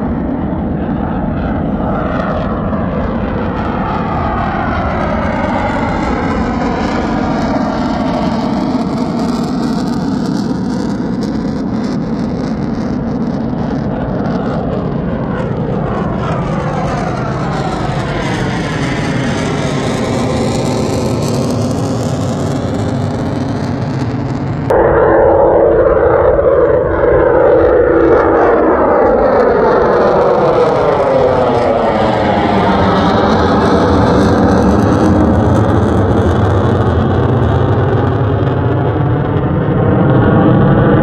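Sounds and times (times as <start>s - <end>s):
fighter jet flying past: 0.0s - 41.0s.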